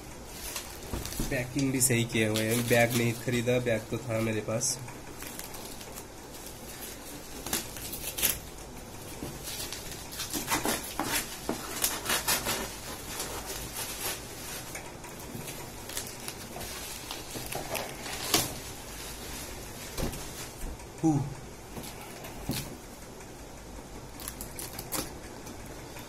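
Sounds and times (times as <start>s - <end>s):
bubble wrap crinkling and crackling: 0.1s - 20.7s, 24.0s - 25.5s.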